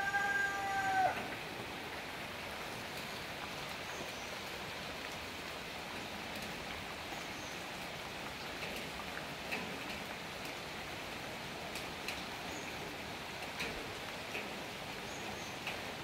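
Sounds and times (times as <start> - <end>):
faint ticks of raindrops: 0.0 - 16.0
heavy rain hiss: 0.0 - 16.0.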